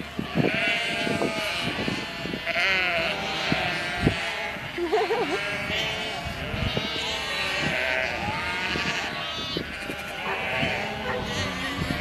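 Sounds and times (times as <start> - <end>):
sheep bleating: 0.2 - 12.0.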